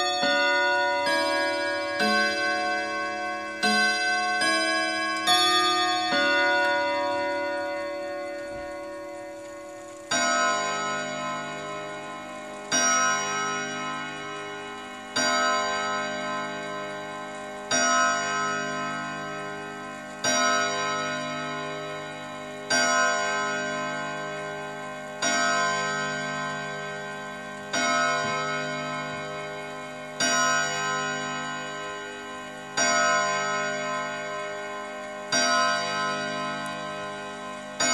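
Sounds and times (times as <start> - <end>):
clock striking on gong rods: 0.0 - 37.9.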